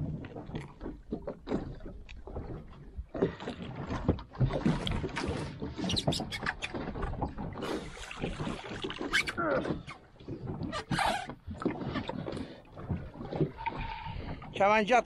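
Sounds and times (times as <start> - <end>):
water lapping against boat: 0.0 - 15.0.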